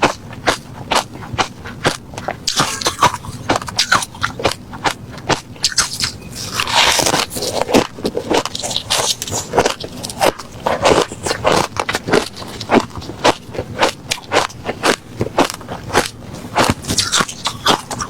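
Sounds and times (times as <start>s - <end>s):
ice being chewed: 0.0s - 18.0s.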